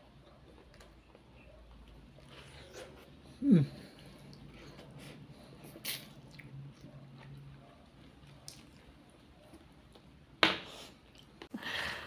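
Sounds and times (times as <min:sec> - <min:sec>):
man chewing food: 0:00.0 - 0:11.6.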